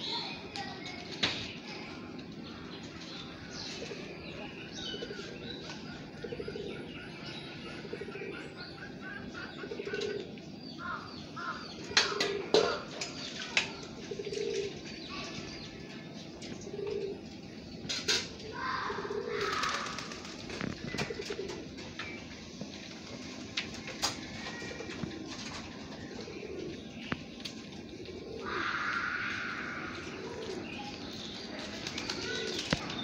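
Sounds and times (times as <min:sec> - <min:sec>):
small birds chirping: 0:00.0 - 0:33.0
pigeons cooing: 0:03.6 - 0:33.0.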